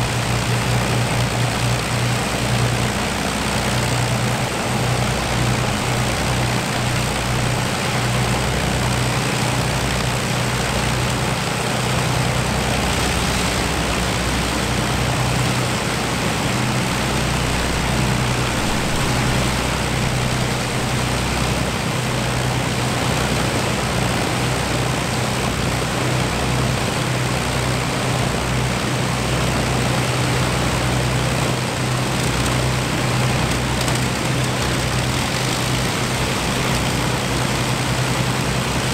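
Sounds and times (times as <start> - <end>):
aircraft engines idling: 0.0 - 38.9.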